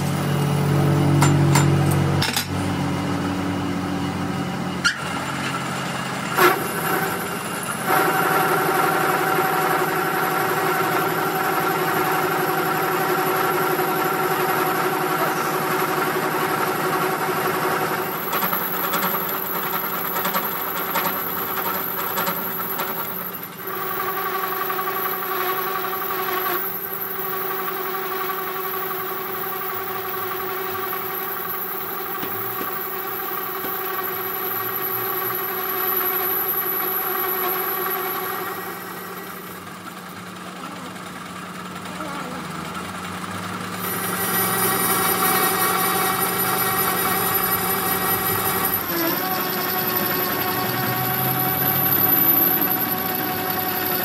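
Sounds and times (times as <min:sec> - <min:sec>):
metal lathe whine: 0:00.0 - 0:40.4, 0:42.8 - 0:54.0.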